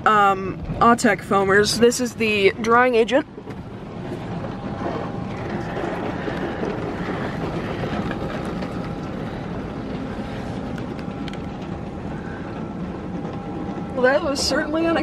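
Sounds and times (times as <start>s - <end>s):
faint steady whine: 0.0s - 15.0s
wash machinery rumble: 0.0s - 15.0s.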